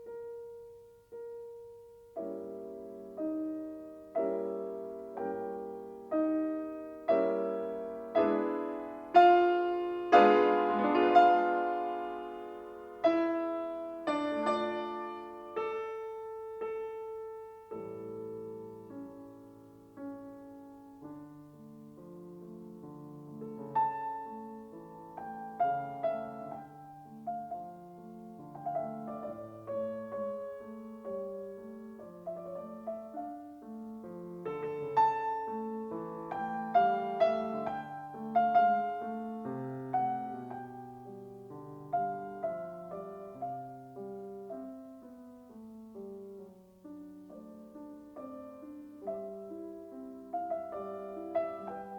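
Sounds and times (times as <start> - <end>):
slow gentle piano music: 0.0 - 51.9.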